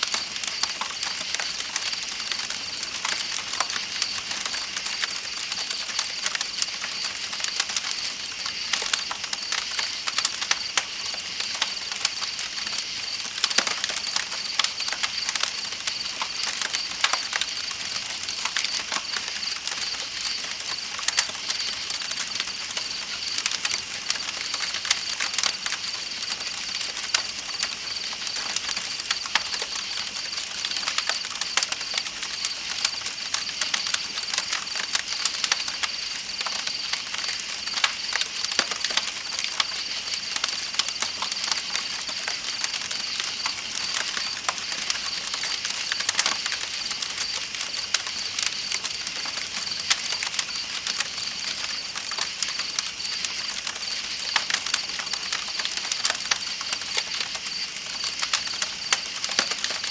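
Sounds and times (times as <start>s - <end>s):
campfire crackling and popping: 0.0s - 59.9s
night insects chorus: 0.0s - 59.9s.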